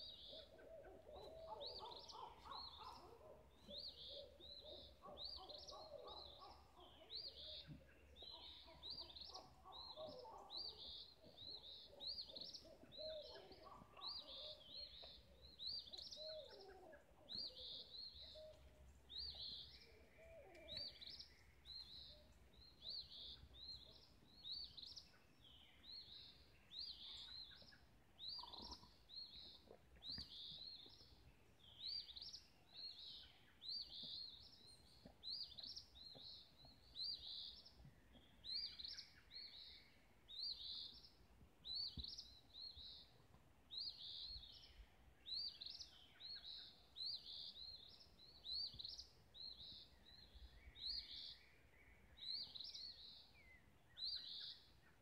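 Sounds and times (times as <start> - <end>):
soft lower bird calls: 0.0 - 55.0.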